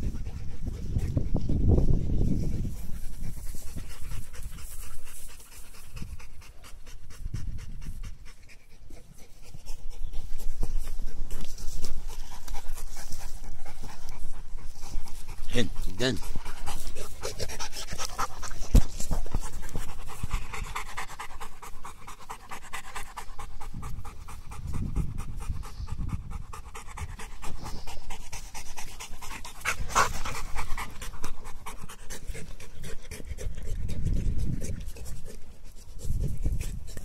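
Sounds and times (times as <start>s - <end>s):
dog panting: 0.0s - 37.0s.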